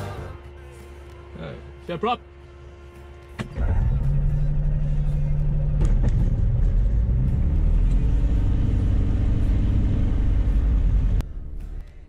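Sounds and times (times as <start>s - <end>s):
aircraft engine running: 0.0s - 12.0s.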